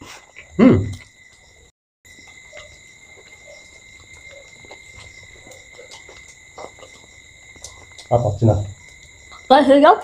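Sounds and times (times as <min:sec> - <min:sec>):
chewing and eating clicks: 0:00.1 - 0:01.5, 0:02.1 - 0:09.7.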